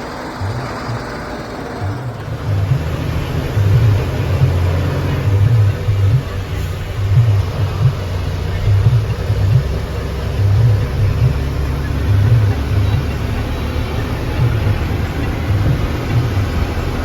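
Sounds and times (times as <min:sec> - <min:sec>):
diesel engine throbbing under load: 0:00.0 - 0:17.0.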